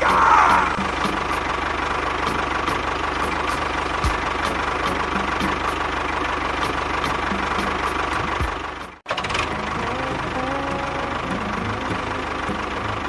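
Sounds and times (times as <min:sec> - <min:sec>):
small engine idling with rattle: 0:00.0 - 0:13.0.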